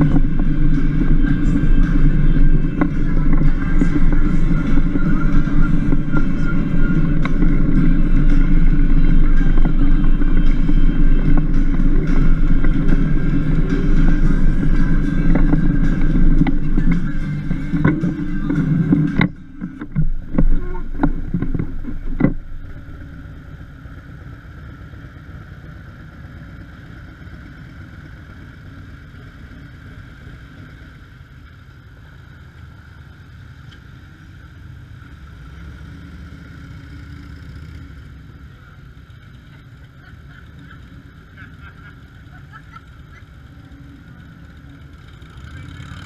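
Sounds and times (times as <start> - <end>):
motorcycle engine idling: 0.0 - 46.0.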